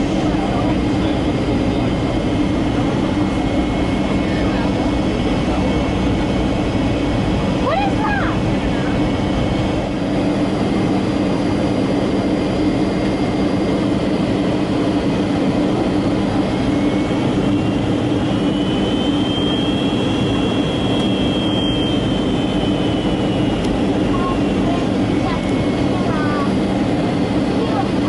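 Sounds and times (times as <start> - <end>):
jet engine cabin hum: 0.0 - 28.0.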